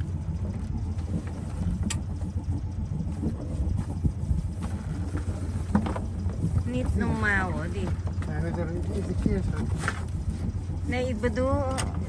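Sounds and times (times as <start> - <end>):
boat engine running at low revs: 0.0 - 12.0.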